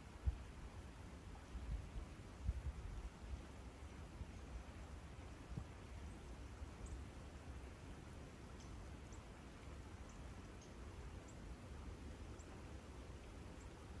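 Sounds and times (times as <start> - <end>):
soft hiss: 0.0 - 14.0.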